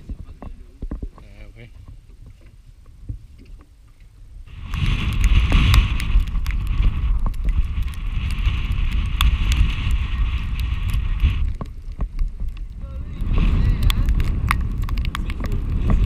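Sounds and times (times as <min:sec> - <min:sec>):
choppy water: 0:00.0 - 0:16.0
wind buffeting microphone: 0:00.0 - 0:16.0.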